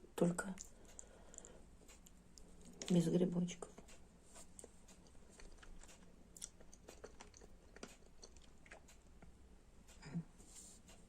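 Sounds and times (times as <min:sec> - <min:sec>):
faint chewing: 0:00.2 - 0:11.0.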